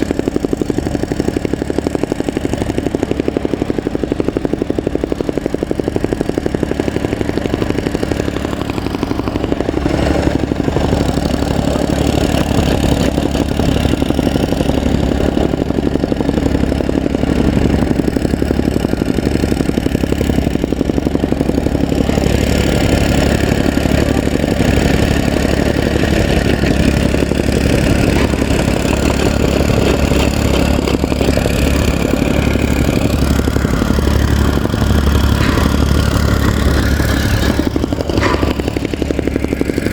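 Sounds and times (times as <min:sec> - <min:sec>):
soil compactor running: 0:00.0 - 0:39.9.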